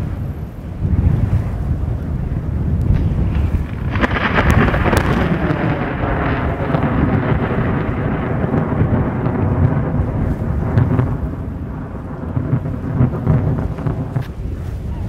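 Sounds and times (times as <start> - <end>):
rain hissing: 0.0 - 15.0
rolling thunder: 0.0 - 15.0.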